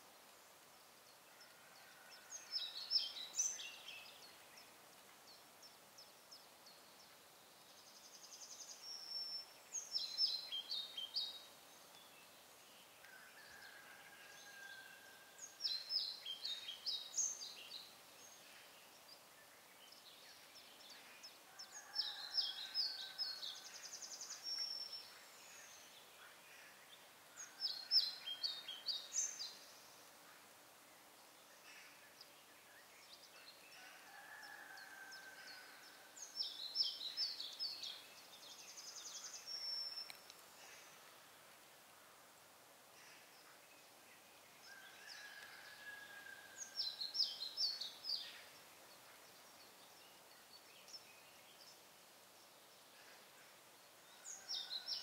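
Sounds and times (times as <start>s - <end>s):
faint outdoor hiss: 0.0s - 55.0s
songbird singing: 0.0s - 55.0s.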